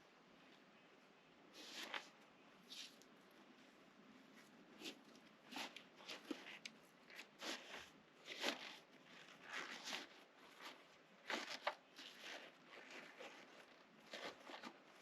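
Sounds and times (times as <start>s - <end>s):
rustling and scuffing of gear: 1.6s - 15.0s.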